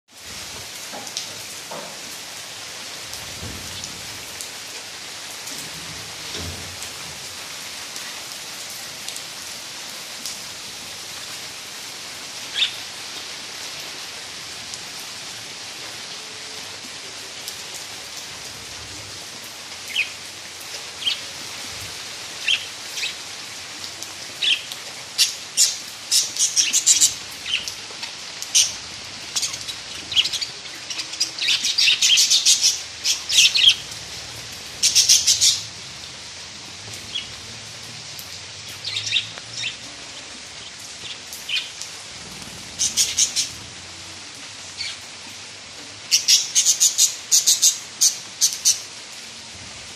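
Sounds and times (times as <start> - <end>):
rain hissing: 0.1 - 49.9.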